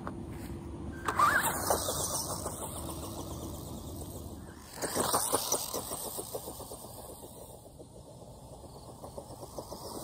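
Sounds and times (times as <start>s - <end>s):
electric motor and gearbox whirring: 1.0s - 10.0s.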